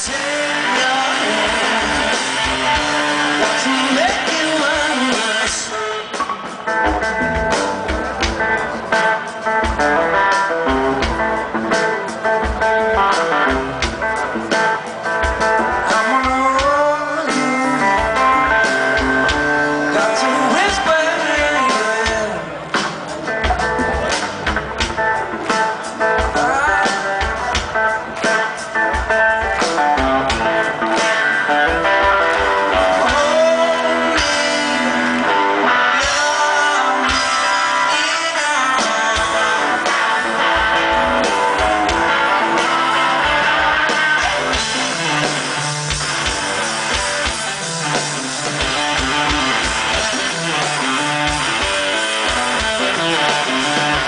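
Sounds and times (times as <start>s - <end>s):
blues-rock band playing: 0.0s - 54.0s
electric guitar: 0.0s - 54.0s.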